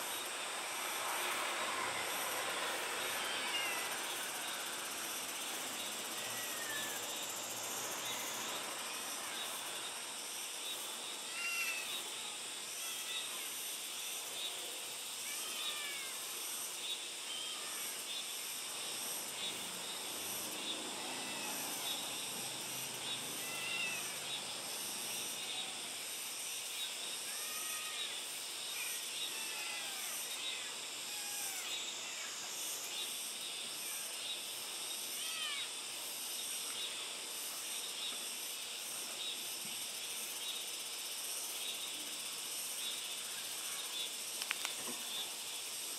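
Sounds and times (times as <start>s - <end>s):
insect hiss: 0.0s - 45.9s.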